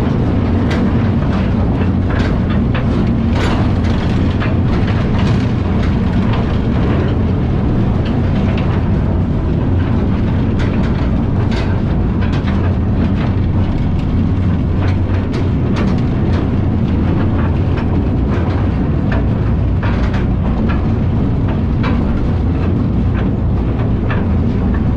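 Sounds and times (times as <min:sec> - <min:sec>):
mine train rumbling on track: 0:00.0 - 0:24.9
wheels clanking and rattling: 0:00.0 - 0:24.9.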